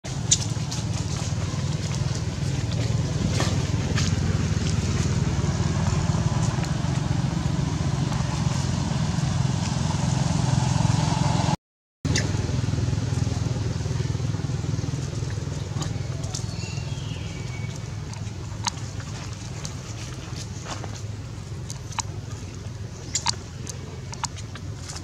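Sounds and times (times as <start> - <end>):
low engine drone: 0.1 - 25.0.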